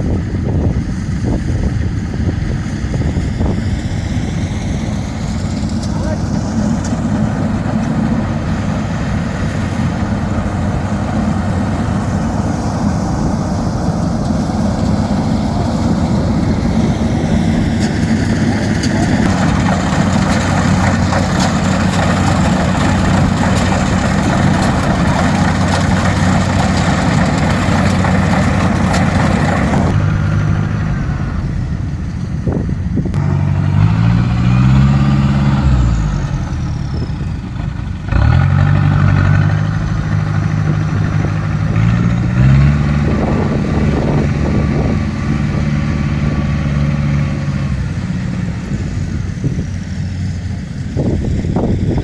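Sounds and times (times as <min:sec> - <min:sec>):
dense mechanical rush: 0:00.0 - 0:52.0
engine revving: 0:00.0 - 0:52.0
harvest machinery engines droning: 0:00.0 - 0:52.0.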